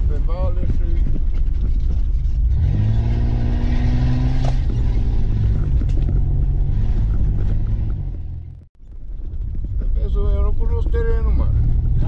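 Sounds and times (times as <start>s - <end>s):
road rumble: 0.0s - 12.0s.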